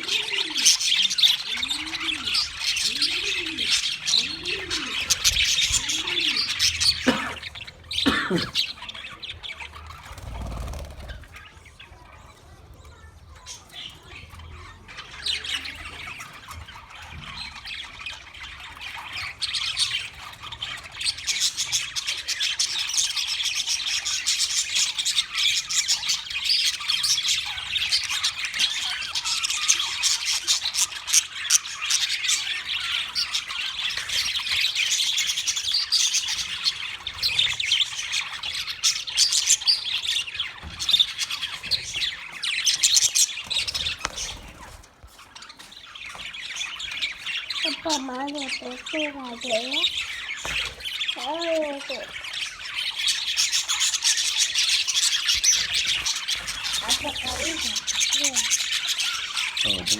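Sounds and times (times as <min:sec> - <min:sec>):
budgerigars chattering: 0:00.0 - 0:12.4, 0:13.0 - 0:59.9.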